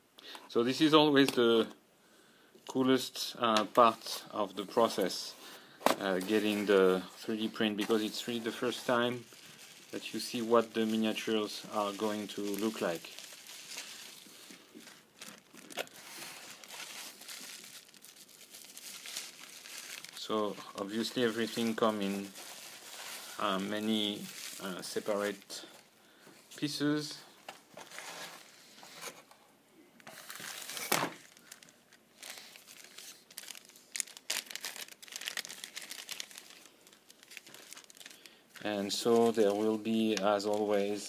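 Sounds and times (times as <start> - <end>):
packaging crinkling and rustling: 3.6 - 25.9, 27.4 - 29.3, 30.0 - 41.0.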